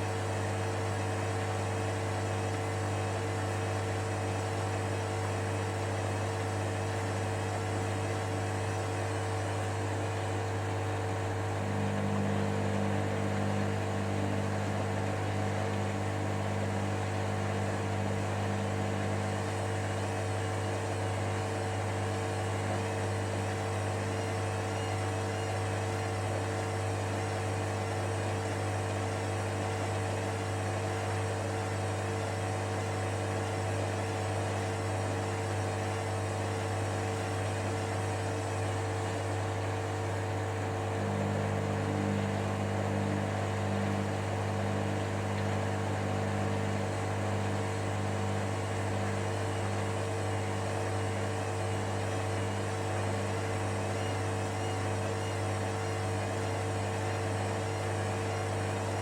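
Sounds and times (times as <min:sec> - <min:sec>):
washing machine motor humming: 0:00.0 - 0:59.0.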